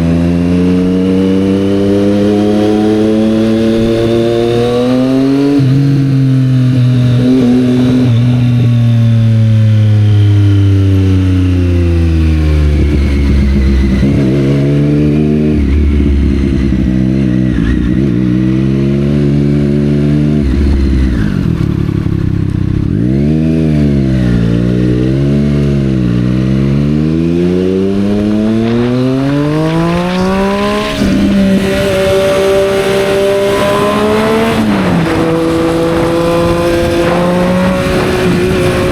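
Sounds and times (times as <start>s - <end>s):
motorcycle engine revving: 0.0s - 38.9s
gear change: 0.6s - 38.9s.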